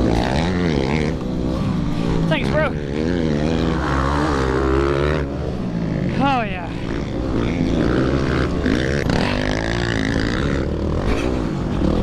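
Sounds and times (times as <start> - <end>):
motorcycle engine running hard: 0.0 - 12.0.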